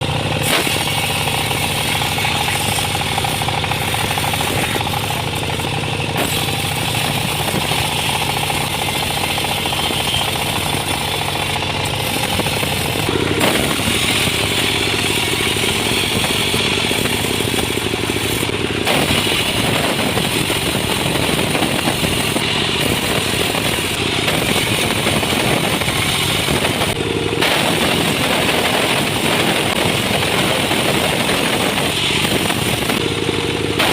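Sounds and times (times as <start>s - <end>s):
sawmill saw droning: 0.0s - 33.9s.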